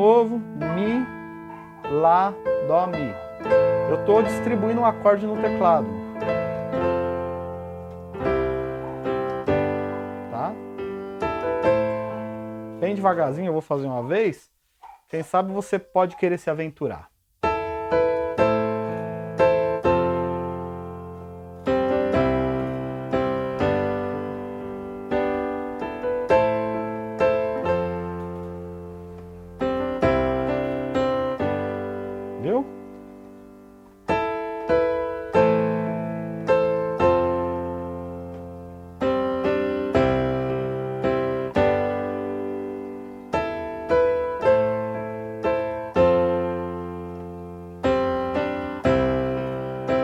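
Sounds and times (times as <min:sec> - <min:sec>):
electronic keyboard piano chords: 0:00.0 - 0:16.7, 0:17.4 - 0:50.0.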